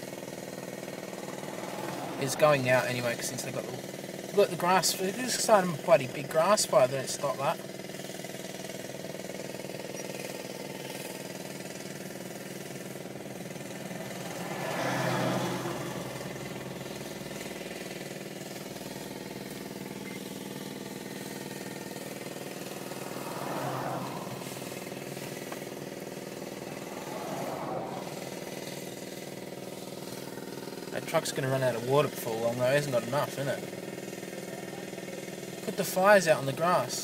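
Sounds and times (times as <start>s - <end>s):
vehicles passing: 0.0s - 7.7s, 8.4s - 36.9s
vehicle engine idling: 0.0s - 37.0s.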